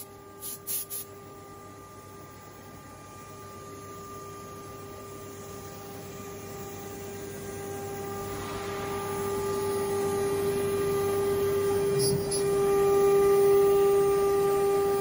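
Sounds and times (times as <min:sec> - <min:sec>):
router spindle whine: 0:01.9 - 0:15.0.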